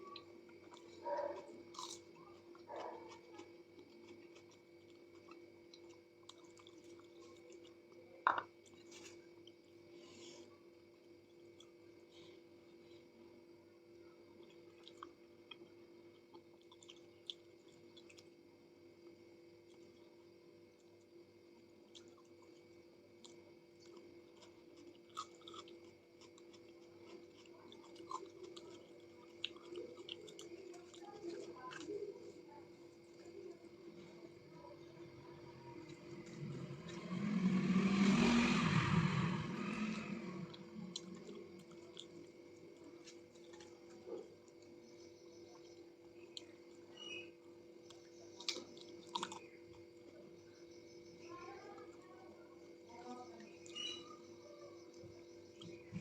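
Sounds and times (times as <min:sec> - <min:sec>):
person chewing: 0:00.0 - 0:13.2, 0:14.2 - 0:18.5, 0:19.1 - 0:50.2
faint steady hum: 0:00.0 - 0:56.0.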